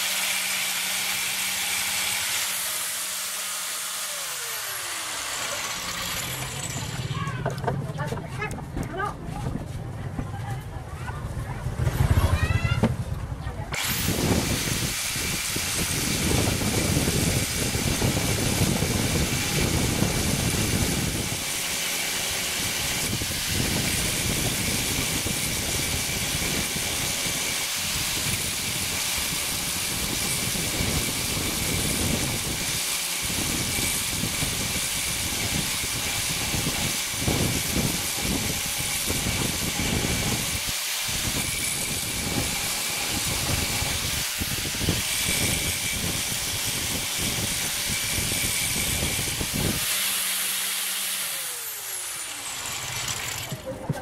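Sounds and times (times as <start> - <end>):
angle grinder grinding metal: 0.0 - 8.6, 13.7 - 54.0.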